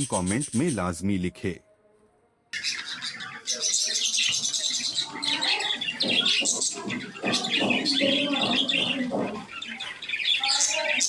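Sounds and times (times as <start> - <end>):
budgerigars chirping and chattering: 0.0 - 1.0, 2.6 - 11.0.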